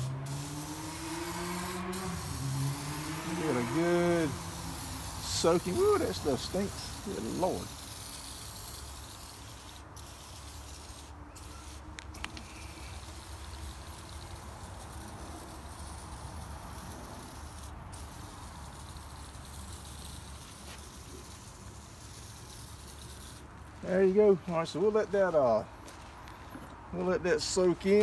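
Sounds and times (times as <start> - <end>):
aerosol can spraying: 0.0 - 23.5.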